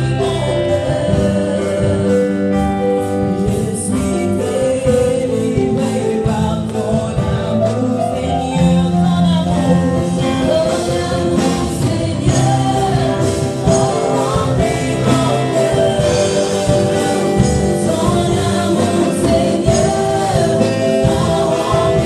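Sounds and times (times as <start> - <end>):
backing singers: 0.0 - 22.0
drum kit: 0.0 - 22.0
electric guitar: 0.0 - 22.0
keyboard: 0.0 - 22.0
woman singing lead: 0.0 - 22.0.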